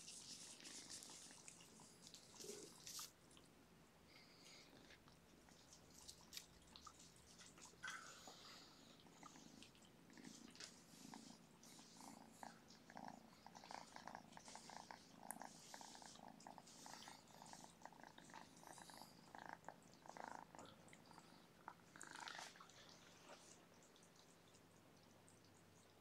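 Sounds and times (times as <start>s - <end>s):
cat purring: 0.1s - 3.0s, 4.1s - 25.4s.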